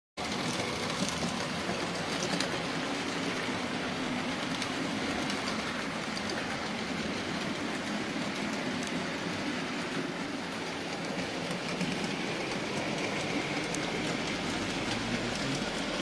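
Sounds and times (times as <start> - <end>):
model train running on track: 0.2 - 16.0.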